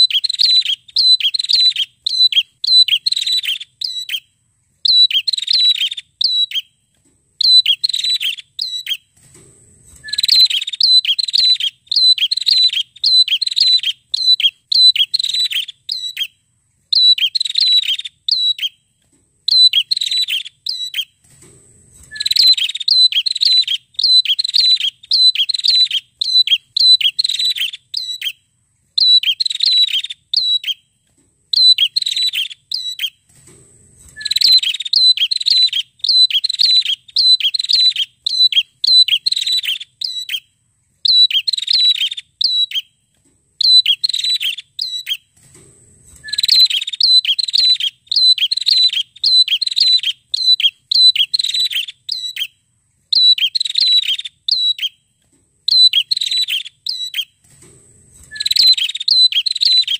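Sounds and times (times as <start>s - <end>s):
bird chirping: 0.0s - 9.2s, 9.9s - 21.3s, 22.0s - 33.4s, 34.0s - 45.4s, 46.2s - 57.5s, 58.2s - 59.9s.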